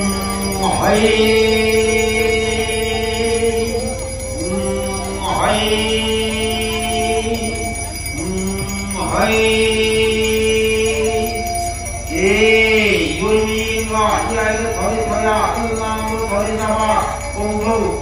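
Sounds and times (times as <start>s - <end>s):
jingling bells: 0.0s - 18.0s
person singing long notes: 0.0s - 18.0s.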